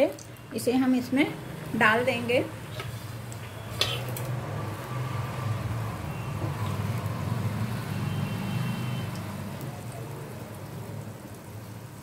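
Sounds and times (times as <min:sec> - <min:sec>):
frying oil sizzling and bubbling: 0:00.0 - 0:12.0.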